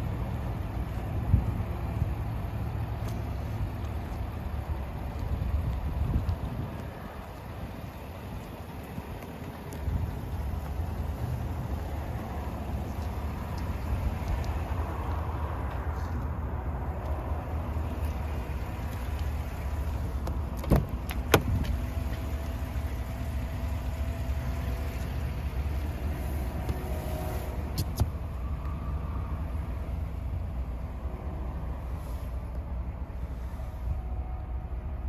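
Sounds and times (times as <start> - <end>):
truck engine idling: 0.0 - 35.0.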